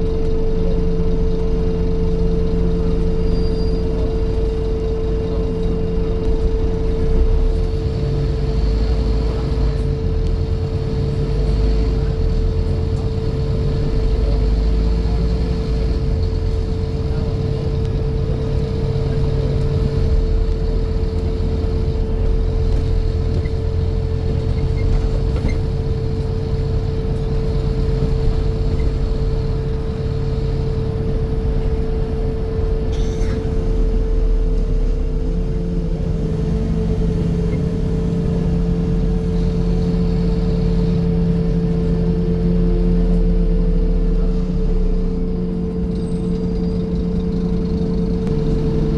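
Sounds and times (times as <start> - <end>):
bus engine rumble: 0.0 - 48.9.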